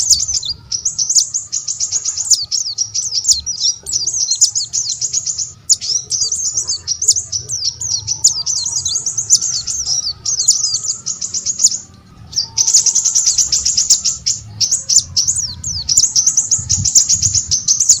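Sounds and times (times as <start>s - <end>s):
songbird twittering: 0.0s - 18.0s.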